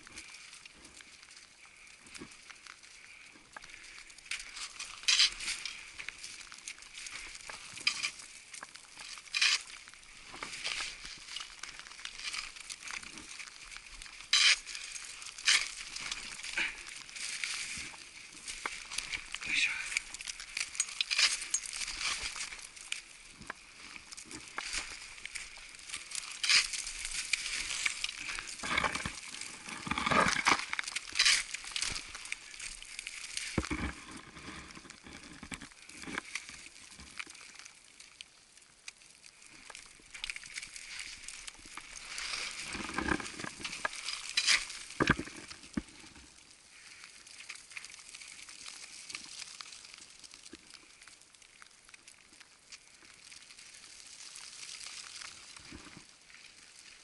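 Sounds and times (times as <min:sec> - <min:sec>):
clothing and gear rustling: 0:00.0 - 0:37.6, 0:39.3 - 0:49.8.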